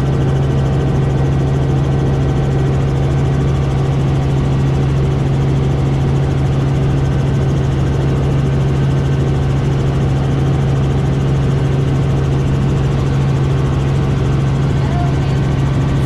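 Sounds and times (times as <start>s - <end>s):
helicopter engine and rotors: 0.0s - 16.0s.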